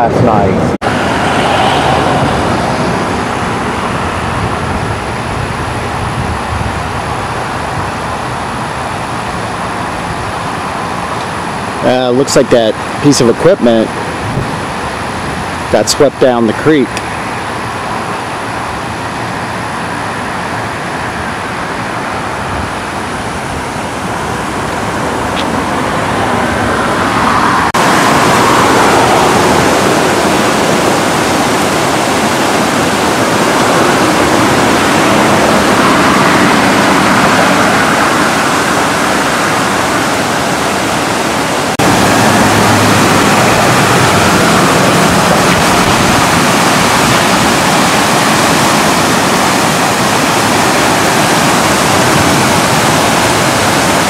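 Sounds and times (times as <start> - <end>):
floodwater rushing down a creek: 0.8 - 54.0.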